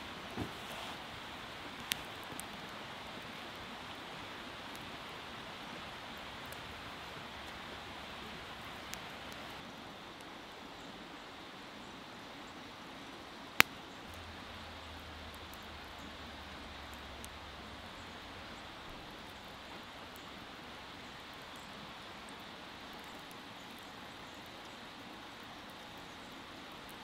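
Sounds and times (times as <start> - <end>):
campfire hissing and crackling: 0.0 - 27.0.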